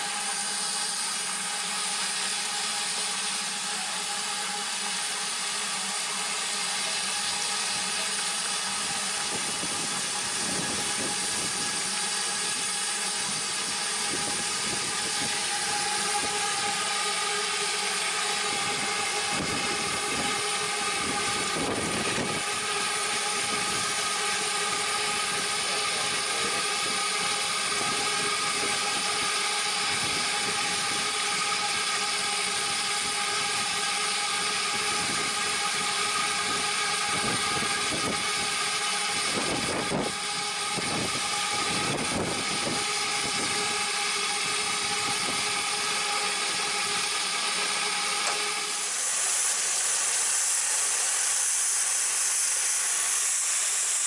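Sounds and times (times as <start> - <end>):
fan motor whining hum: 0.0 - 54.0.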